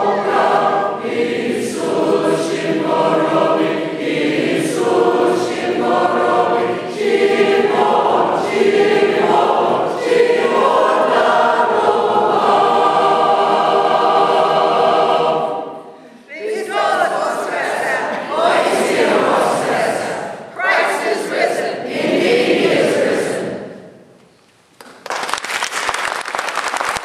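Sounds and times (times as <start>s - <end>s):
choir singing unaccompanied: 0.0s - 23.8s.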